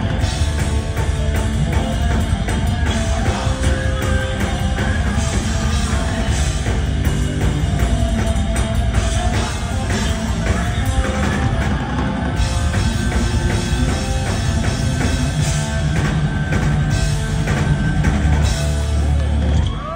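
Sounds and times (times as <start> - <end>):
bass guitar: 0.0 - 19.9
distorted electric guitars: 0.0 - 19.9
drum kit: 0.0 - 19.9.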